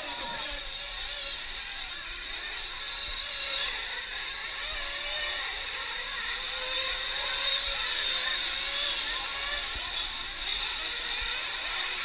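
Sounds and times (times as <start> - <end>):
rc truck engines whining: 0.0 - 12.0.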